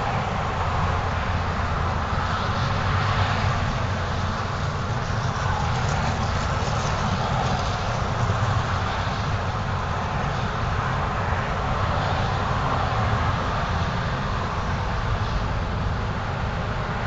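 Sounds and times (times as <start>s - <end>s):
road traffic rumbling: 0.0s - 17.0s.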